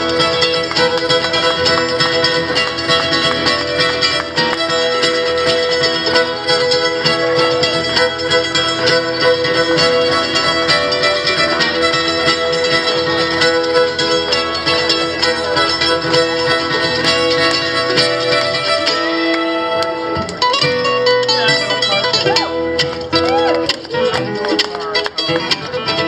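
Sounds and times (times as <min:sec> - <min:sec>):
fiddle holding notes: 0:00.0 - 0:26.0.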